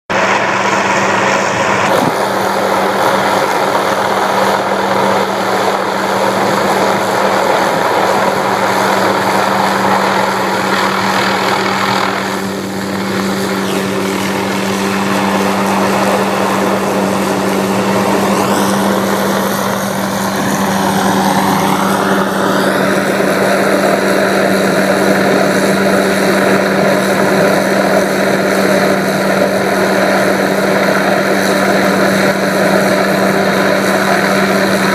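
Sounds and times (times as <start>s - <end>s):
helicopter rotor and engine drone: 0.1s - 34.9s.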